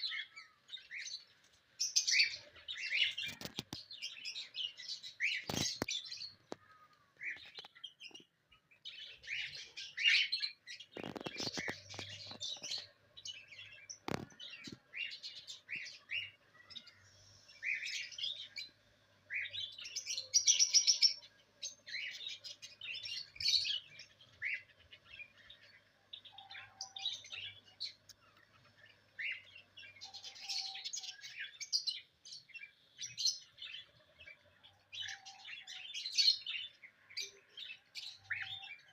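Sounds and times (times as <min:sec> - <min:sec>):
cage birds chirping: 0:00.0 - 0:38.9.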